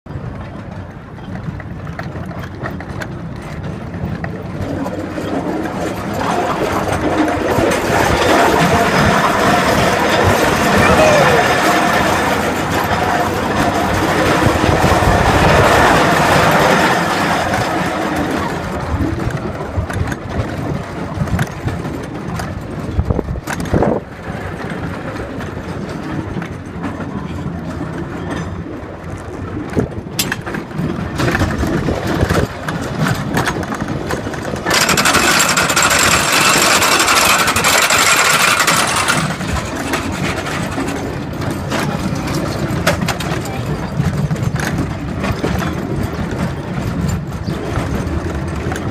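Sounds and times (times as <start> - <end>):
roller coaster wheels rumbling: 0.1 - 48.9.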